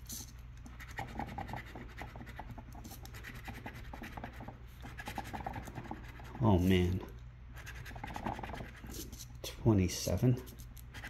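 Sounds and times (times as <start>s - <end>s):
lottery ticket being scratched: 0.0s - 9.4s.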